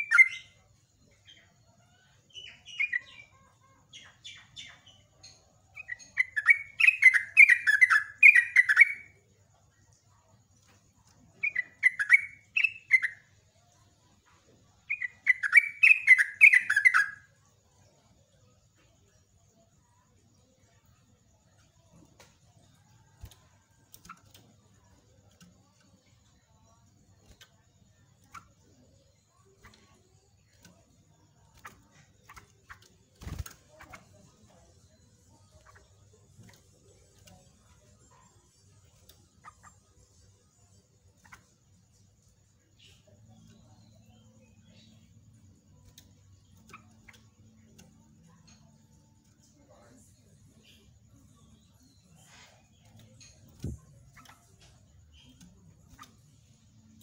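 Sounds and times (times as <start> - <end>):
bulbul singing: 0.0 - 9.2, 11.0 - 13.4, 14.8 - 18.0, 18.8 - 57.0.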